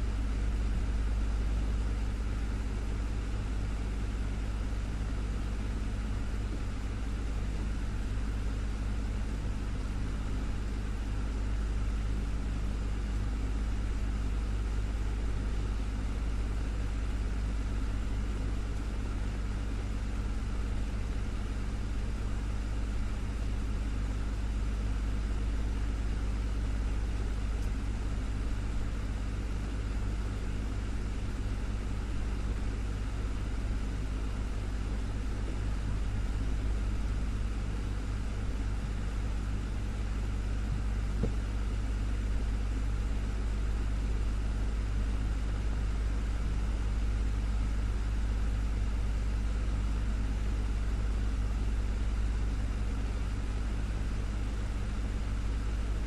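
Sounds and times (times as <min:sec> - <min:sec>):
desktop fan humming: 0:00.0 - 0:56.0.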